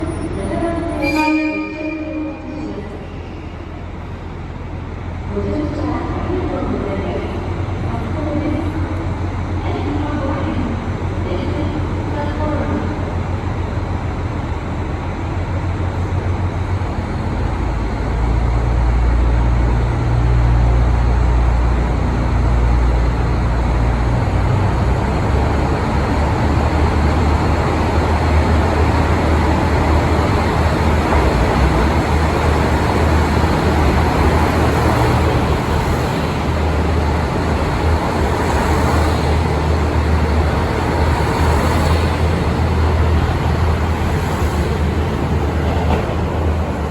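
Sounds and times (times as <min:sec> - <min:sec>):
diesel train rumbling: 0:00.0 - 0:46.9.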